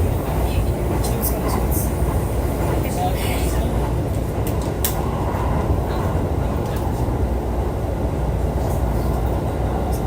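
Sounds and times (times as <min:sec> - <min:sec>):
electric train wheels rumbling on rail: 0:00.0 - 0:10.0.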